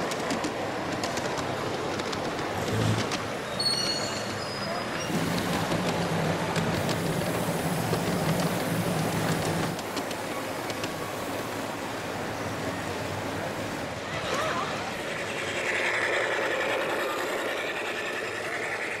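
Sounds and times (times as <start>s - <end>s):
light clicks of cars on track: 0.0s - 19.0s
locomotive low hum: 0.0s - 19.0s
model train wheels rumbling on rails: 0.0s - 19.0s.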